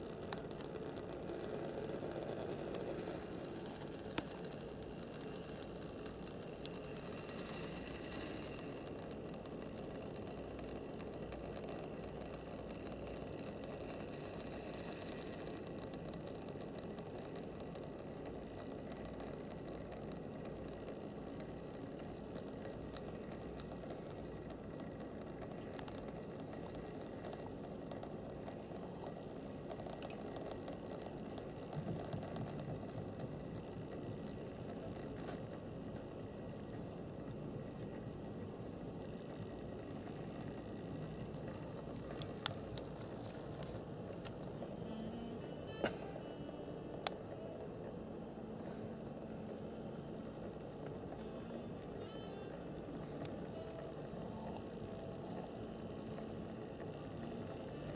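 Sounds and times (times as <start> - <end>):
model train motor whirring: 0.0 - 57.9.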